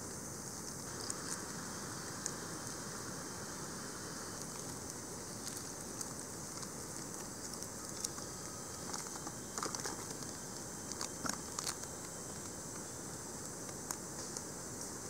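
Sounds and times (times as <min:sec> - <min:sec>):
crackling dry leaves: 0:00.0 - 0:15.0
insect hiss: 0:00.0 - 0:15.0.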